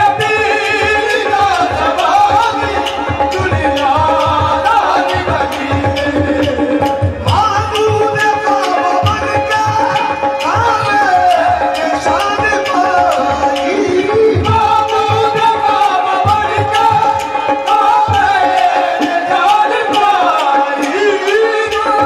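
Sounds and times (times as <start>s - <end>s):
harmonium tones: 0.0s - 22.0s
lead voice singing: 0.0s - 22.0s
tabla strokes: 0.0s - 22.0s.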